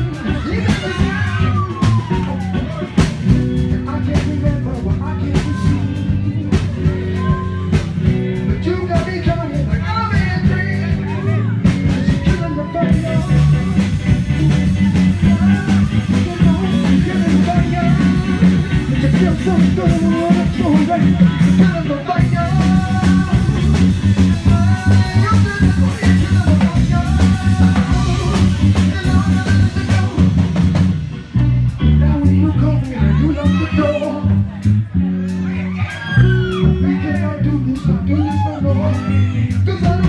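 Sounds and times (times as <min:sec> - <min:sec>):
person singing: 0:00.0 - 0:03.0, 0:03.6 - 0:40.0
drum kit: 0:00.0 - 0:40.0
electric guitar: 0:00.0 - 0:40.0
heavy bass line: 0:00.0 - 0:40.0.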